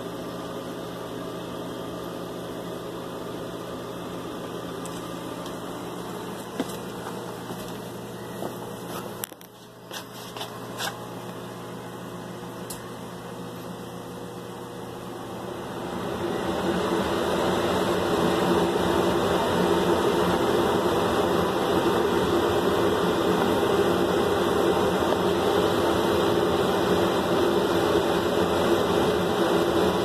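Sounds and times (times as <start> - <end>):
mechanical hum with rushing hiss: 0.0 - 30.0.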